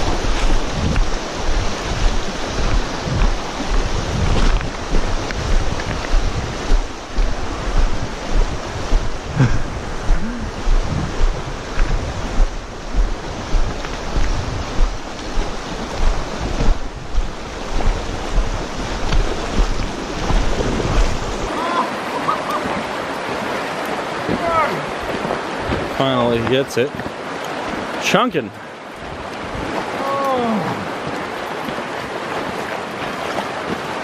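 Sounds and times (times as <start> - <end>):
wind buffeting microphone: 0.0 - 28.0, 28.9 - 34.0
river rapids rushing over stones: 0.0 - 34.0.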